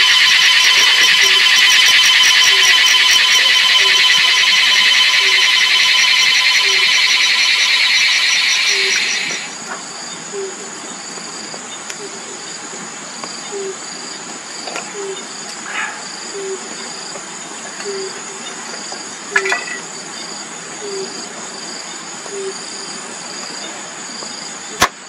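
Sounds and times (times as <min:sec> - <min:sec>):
insects buzzing and trilling: 0:00.0 - 0:24.8
low insect chirp: 0:00.0 - 0:24.8.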